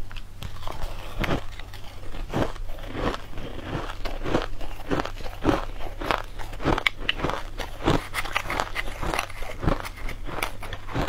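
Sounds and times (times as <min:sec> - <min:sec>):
chewing crushed ice: 0:00.0 - 0:11.0.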